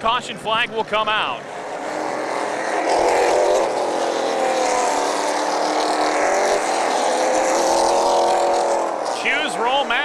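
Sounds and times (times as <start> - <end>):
race car engines running: 0.0 - 10.0.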